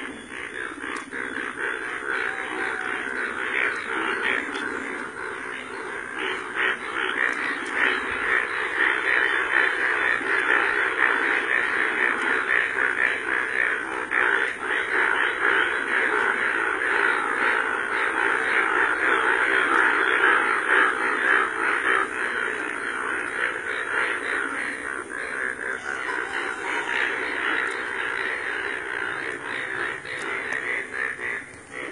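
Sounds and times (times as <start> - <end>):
bullfrogs calling in chorus: 0.0 - 31.9.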